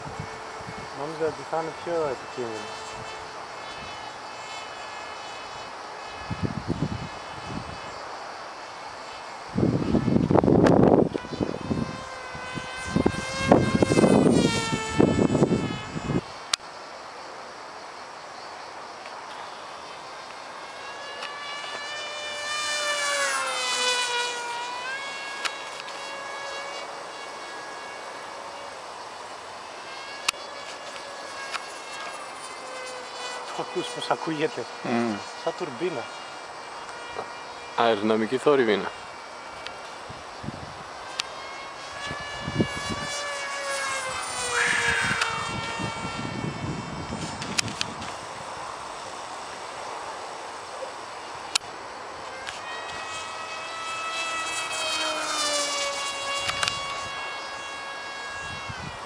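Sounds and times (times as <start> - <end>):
model jet fan whine: 0.0 - 59.0.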